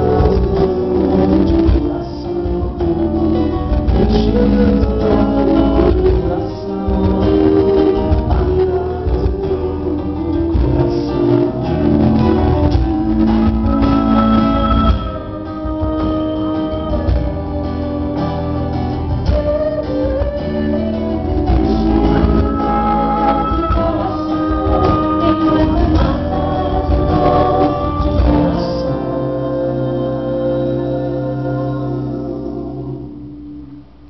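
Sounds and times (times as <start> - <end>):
male and female voices singing: 0.0 - 33.9
acoustic guitars: 0.0 - 34.0.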